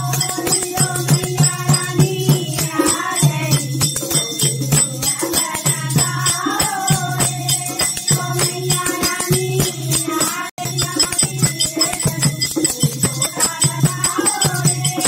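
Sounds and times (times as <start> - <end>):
jingling percussion: 0.0 - 15.0
women singing together: 0.0 - 15.0.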